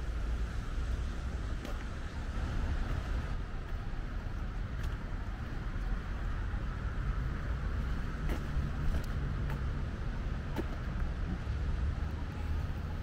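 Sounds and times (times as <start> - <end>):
steady outdoor hiss: 0.0 - 13.0
wind rumbling on microphone: 0.0 - 13.0.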